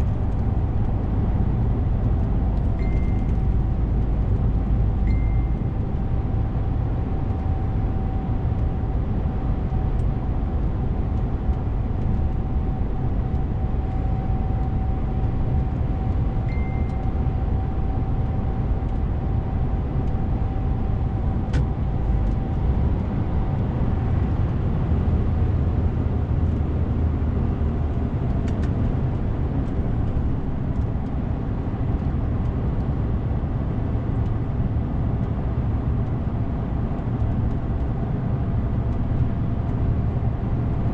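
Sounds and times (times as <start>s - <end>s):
truck engine and road rumble: 0.0s - 40.9s.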